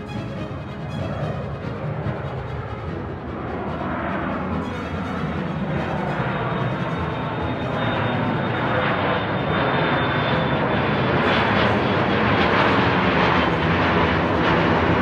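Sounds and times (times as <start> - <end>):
airplane flying low overhead: 0.0 - 15.0.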